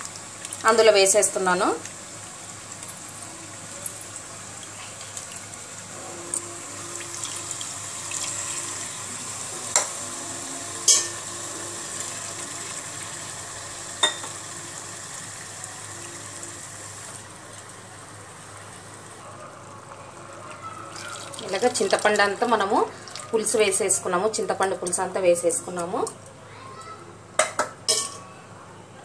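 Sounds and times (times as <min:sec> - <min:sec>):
liquid splashing and sizzling: 0:00.0 - 0:23.9.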